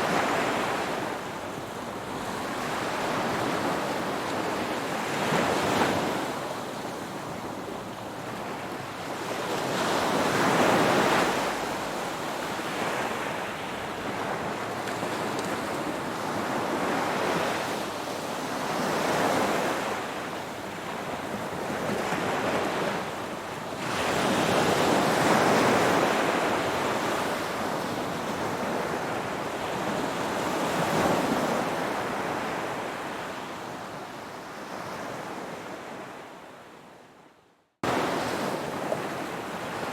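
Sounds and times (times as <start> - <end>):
ocean waves breaking on shore: 0.0 - 36.9, 37.8 - 39.9.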